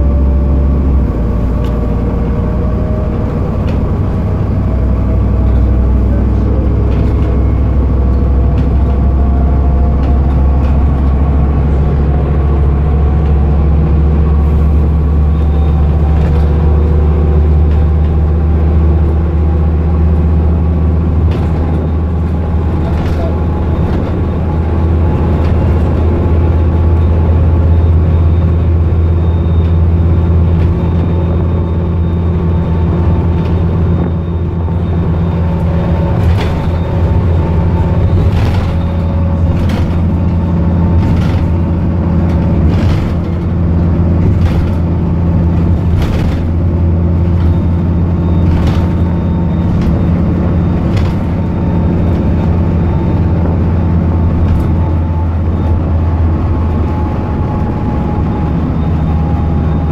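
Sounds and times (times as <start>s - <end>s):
diesel bus engine humming: 0.0s - 59.9s.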